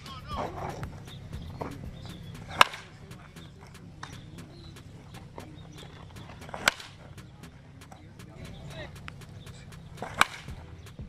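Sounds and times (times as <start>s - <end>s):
baseball bat hitting ball: 0.0s - 11.0s.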